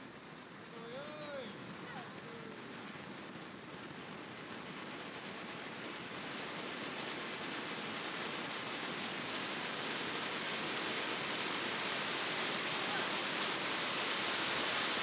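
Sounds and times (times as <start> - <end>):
firework fountain hissing: 0.0 - 15.0.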